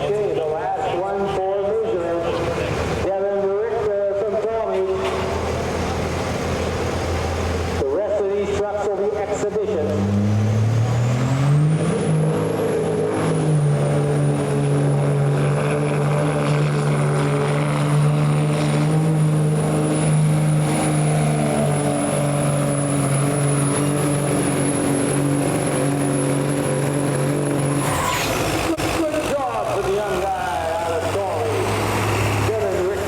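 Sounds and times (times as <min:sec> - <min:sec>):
pulling tractor engine at full throttle: 0:00.0 - 0:33.0.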